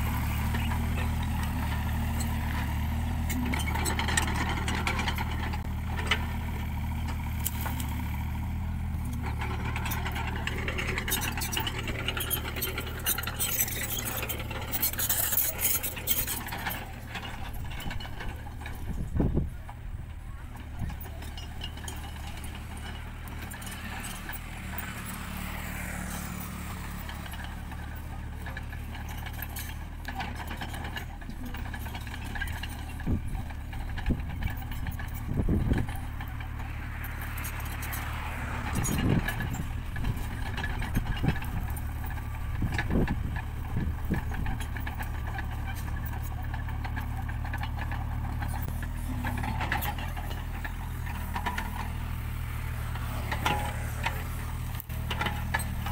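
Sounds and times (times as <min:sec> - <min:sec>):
clanks and scraping: 0:00.0 - 0:55.9
diesel engine running under load: 0:00.0 - 0:55.9.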